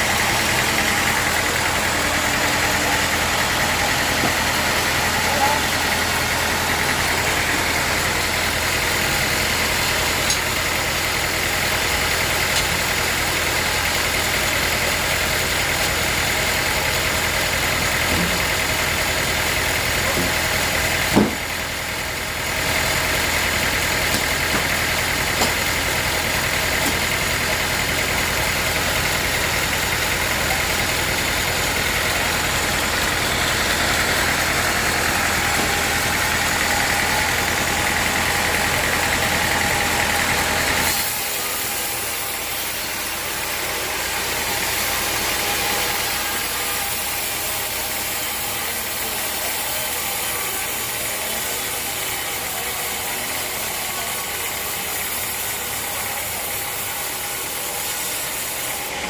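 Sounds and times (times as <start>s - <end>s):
sawmill machinery whine: 0.0s - 59.0s.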